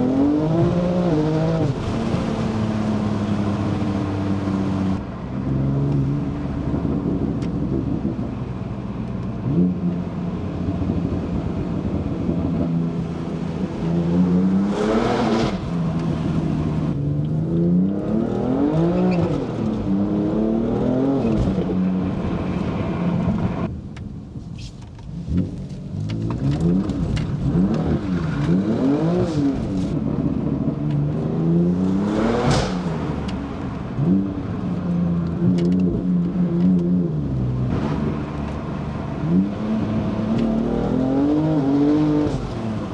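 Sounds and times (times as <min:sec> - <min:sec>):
car engine revving: 0:00.0 - 0:08.0, 0:09.4 - 0:23.7, 0:25.2 - 0:42.9.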